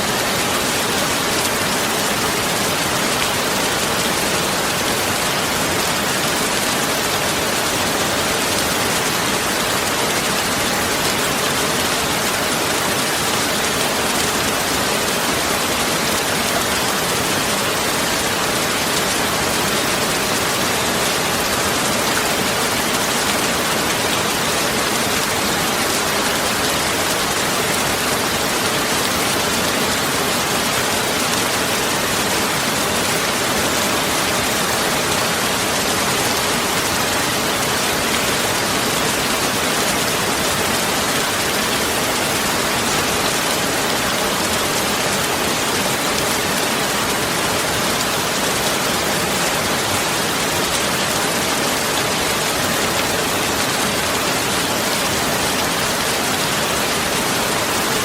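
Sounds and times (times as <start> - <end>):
steady rain-like hiss: 0.0 - 58.0.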